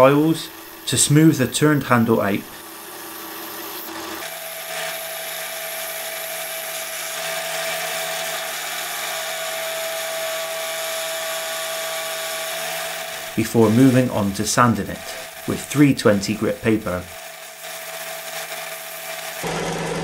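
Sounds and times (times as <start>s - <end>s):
drill press motor hum: 0.0s - 20.0s
file hissing on spinning wood: 0.0s - 20.0s.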